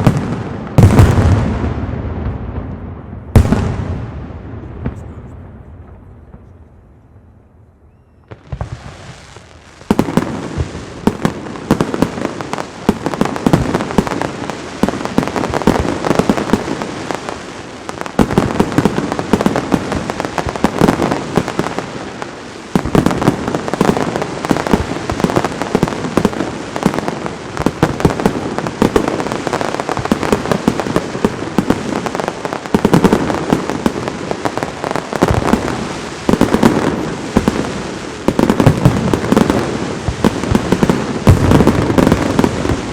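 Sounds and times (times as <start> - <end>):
fireworks crackling and banging: 0.0 - 7.0, 8.2 - 42.9
rising firework hiss: 8.3 - 42.9.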